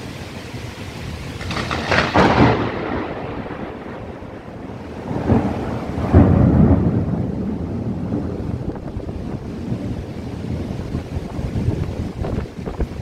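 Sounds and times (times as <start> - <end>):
steady rain: 0.0 - 13.0
wind noise: 0.0 - 13.0
loud thunder: 1.4 - 13.0.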